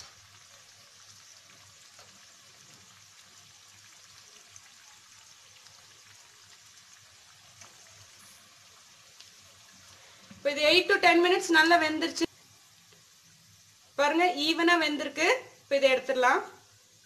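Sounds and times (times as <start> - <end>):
deep-frying sizzle: 0.0 - 17.0.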